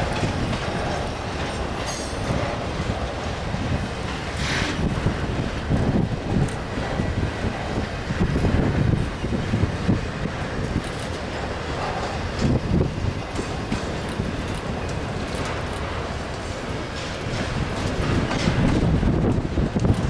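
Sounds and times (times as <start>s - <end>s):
freight train low rumble: 0.0s - 20.0s
train wheels clattering over rail joints: 0.0s - 20.0s.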